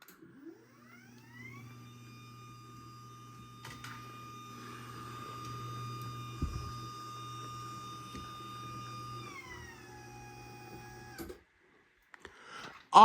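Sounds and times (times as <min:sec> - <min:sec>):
garage door opener motor whine: 0:00.0 - 0:11.4.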